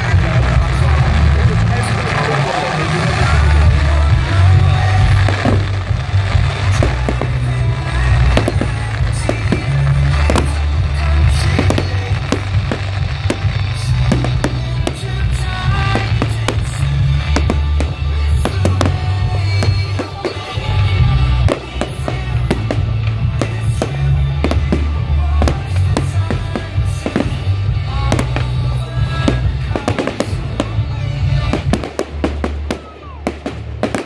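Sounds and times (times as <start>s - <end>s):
deep fireworks booms: 0.0s - 34.0s
fireworks bangs and crackles: 0.0s - 34.0s
music playing: 0.0s - 34.0s.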